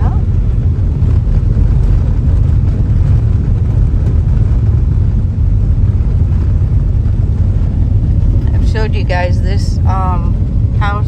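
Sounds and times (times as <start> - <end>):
car driving on road: 0.0 - 11.0.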